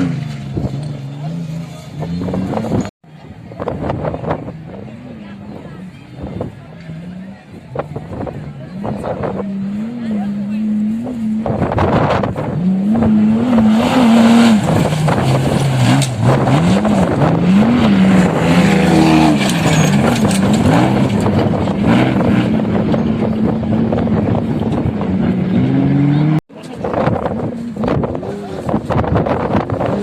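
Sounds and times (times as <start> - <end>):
off-road vehicle engine revving: 0.0 - 2.9, 3.6 - 30.0.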